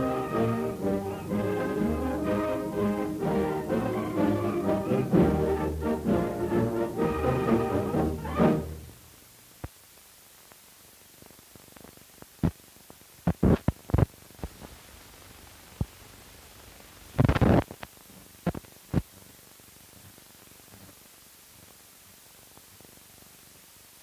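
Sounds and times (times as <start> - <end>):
film soundtrack hiss: 0.0 - 24.0.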